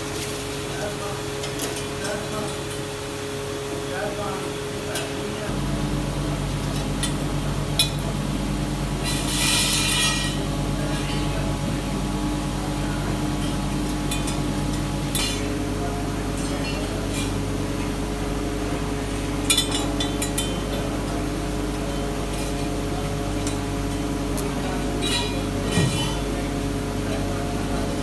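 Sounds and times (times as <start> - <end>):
workshop machinery humming: 0.0 - 28.0.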